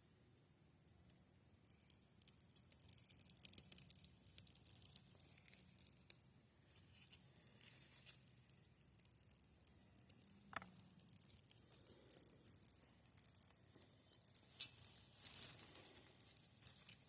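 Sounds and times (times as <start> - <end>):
campfire crackling and sizzling: 0.0 - 17.0.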